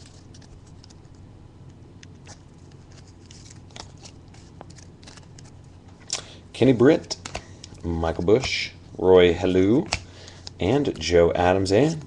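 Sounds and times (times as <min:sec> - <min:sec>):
trading cards clicking and rustling: 0:00.0 - 0:01.2, 0:02.0 - 0:08.7, 0:09.5 - 0:12.0
low steady hum: 0:00.0 - 0:12.0.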